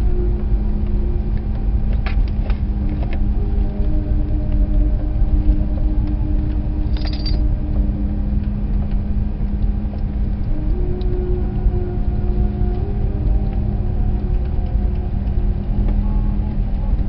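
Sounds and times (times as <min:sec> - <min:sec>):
car engine rumble: 0:00.0 - 0:17.0.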